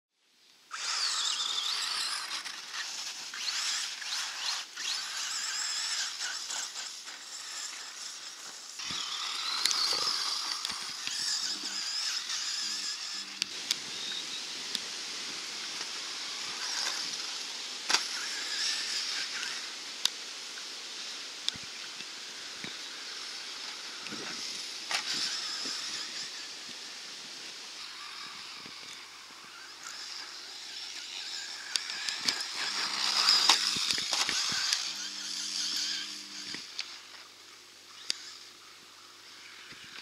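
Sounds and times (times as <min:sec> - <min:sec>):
rc car motor whine: 0:00.7 - 0:40.0.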